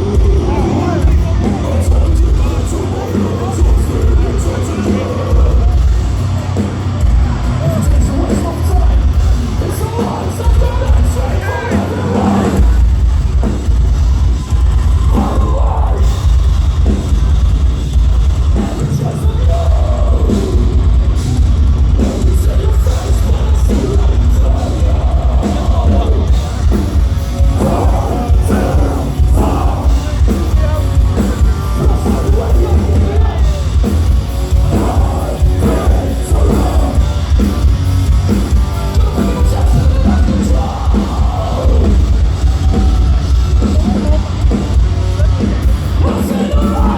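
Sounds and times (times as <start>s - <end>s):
sung and yelled vocals: 0.0s - 16.9s, 18.3s - 46.9s
distorted guitars: 0.0s - 46.9s
heavy drums: 0.0s - 46.9s
metal band playing live: 0.0s - 46.9s.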